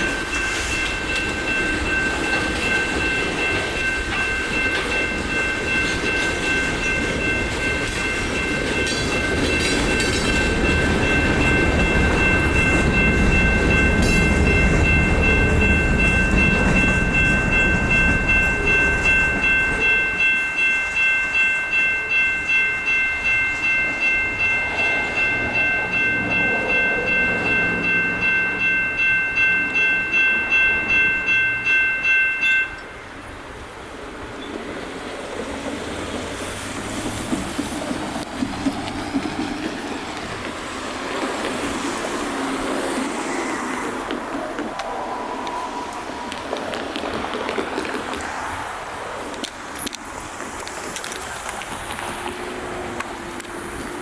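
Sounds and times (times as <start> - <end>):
railroad crossing bells ringing: 0.0 - 54.0
train rumble and wheel clatter: 0.0 - 54.0.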